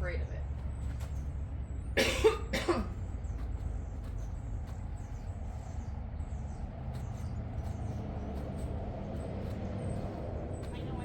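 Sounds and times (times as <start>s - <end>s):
small birds chirping: 0.0s - 2.0s, 2.8s - 11.0s
steady low rumble: 0.0s - 11.0s.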